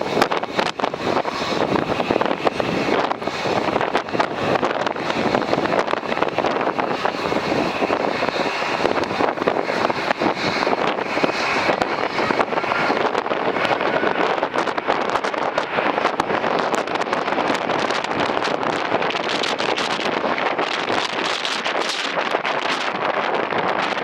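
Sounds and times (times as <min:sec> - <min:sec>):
gusty wind buffeting microphone: 0:00.0 - 0:24.0
jet airliner landing: 0:00.0 - 0:24.0.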